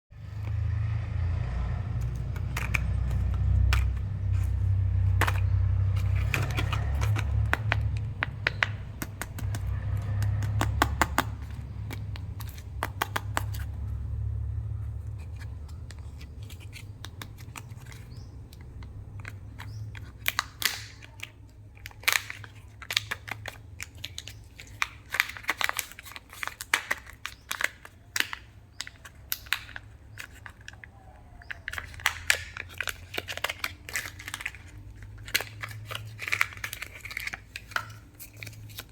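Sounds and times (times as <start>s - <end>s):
plastic wrappers crinkling: 2.0s - 38.9s.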